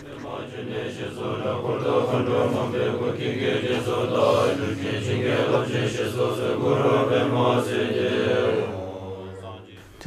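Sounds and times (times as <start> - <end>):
monks chanting prayers: 0.0 - 10.0.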